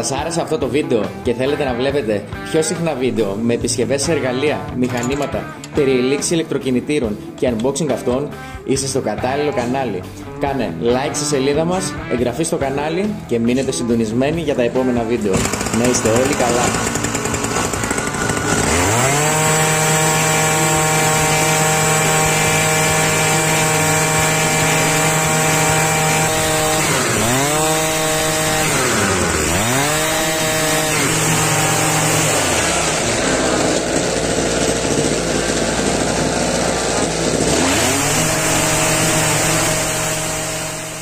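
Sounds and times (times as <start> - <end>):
string trimmer engine revving: 0.0 - 8.3, 8.9 - 41.0.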